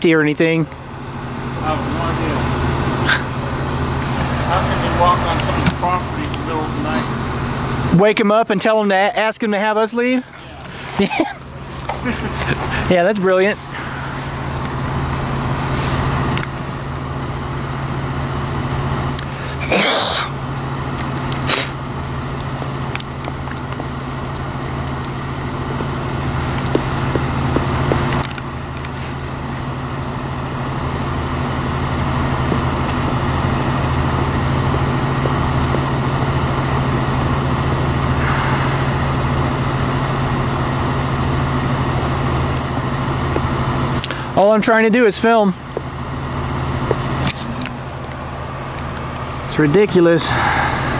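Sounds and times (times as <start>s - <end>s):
vehicle engine idling: 0.0s - 50.9s.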